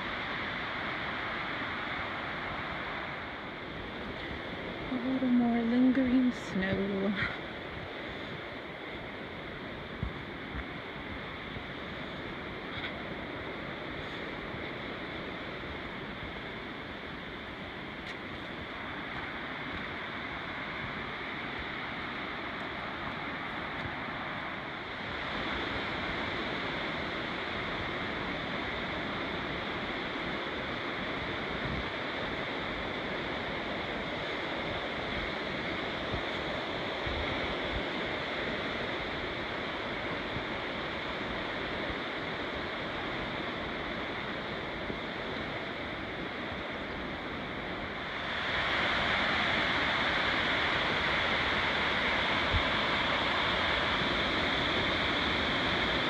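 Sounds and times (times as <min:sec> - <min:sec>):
creek rushing over cascades: 0:00.0 - 0:56.0.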